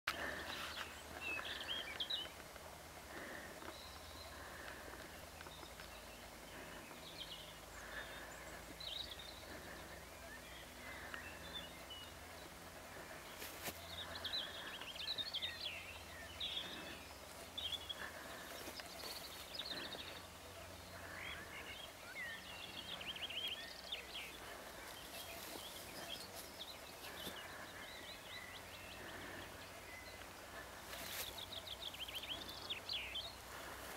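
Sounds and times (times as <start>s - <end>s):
low background noise: 0.1s - 33.9s
songbirds singing and chirping: 0.1s - 33.9s.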